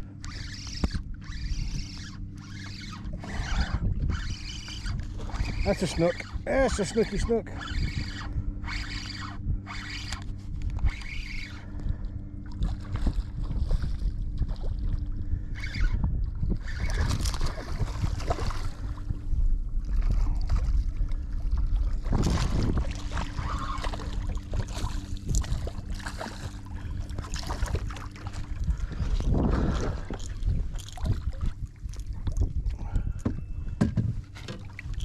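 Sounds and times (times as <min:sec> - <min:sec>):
low steady hum: 0:00.0 - 0:35.0
water splashing around boat: 0:00.0 - 0:35.0
wind buffeting microphone: 0:00.0 - 0:35.0.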